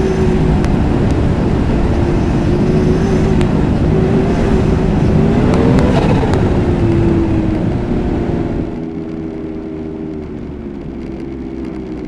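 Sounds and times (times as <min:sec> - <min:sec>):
snowmobile engine running: 0:00.0 - 0:10.1.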